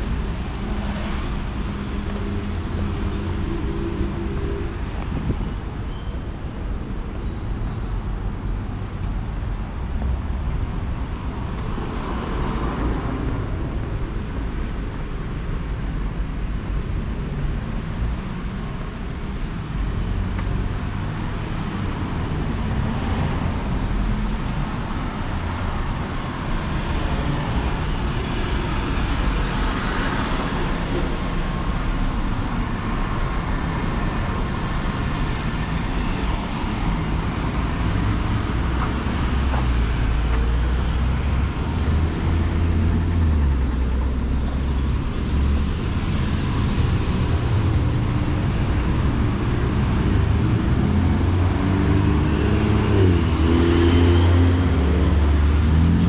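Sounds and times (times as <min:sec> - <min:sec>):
traffic rumble: 0:00.0 - 0:56.0
vehicles passing by: 0:00.0 - 0:56.0.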